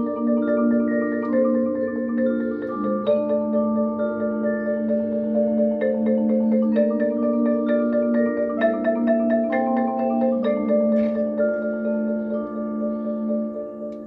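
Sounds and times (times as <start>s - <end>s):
mallet percussion ensemble: 0.0s - 14.0s.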